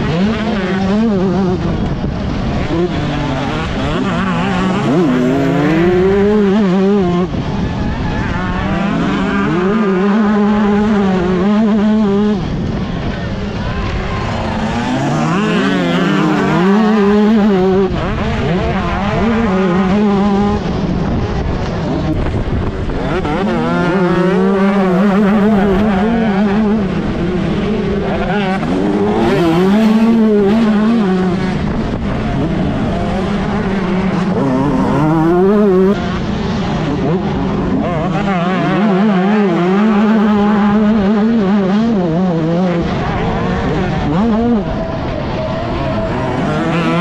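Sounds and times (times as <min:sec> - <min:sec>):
motocross bike accelerating: 0:00.0 - 0:47.0.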